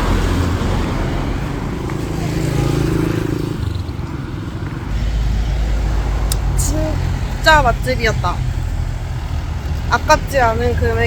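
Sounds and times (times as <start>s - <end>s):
road traffic: 0.0s - 11.0s
vehicle engine running: 0.0s - 11.0s.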